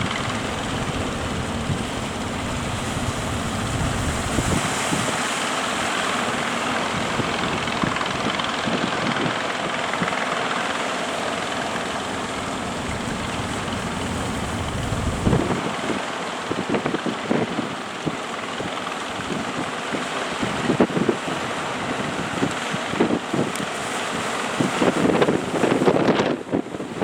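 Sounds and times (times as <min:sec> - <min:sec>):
surf rushing: 0:00.0 - 0:27.0
wind buffeting microphone: 0:00.0 - 0:27.0.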